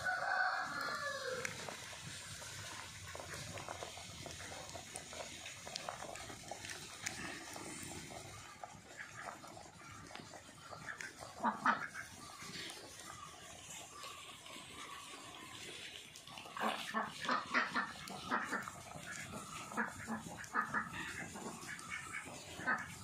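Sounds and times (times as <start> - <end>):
pot boiling and bubbling: 0.0 - 23.0
wood fire crackling: 0.0 - 23.0.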